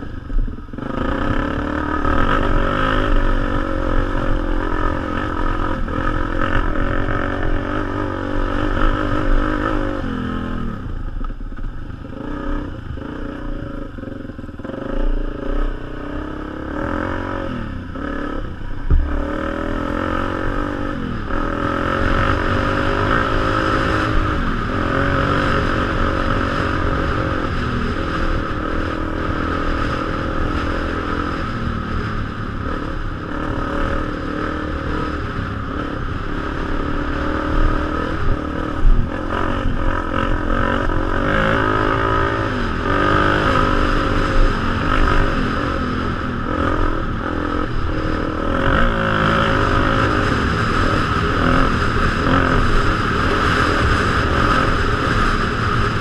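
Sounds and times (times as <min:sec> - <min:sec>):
dirt bike engine revving: 0:00.0 - 0:11.0, 0:11.6 - 0:56.0.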